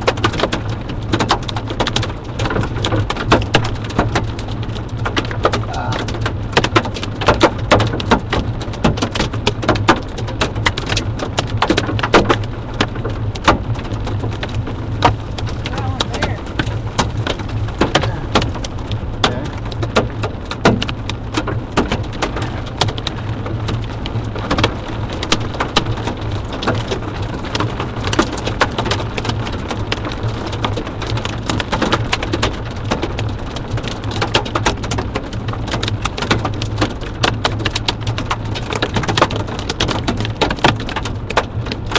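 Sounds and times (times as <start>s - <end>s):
hail and rain on vehicle: 0.0s - 41.9s
low road hum: 0.0s - 41.9s.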